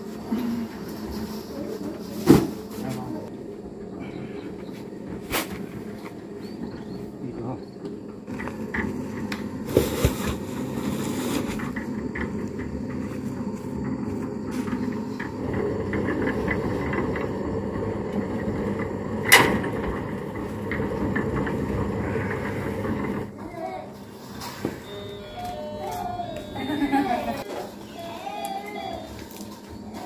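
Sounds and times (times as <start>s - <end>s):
concrete mixer rumbling: 0.0s - 30.0s.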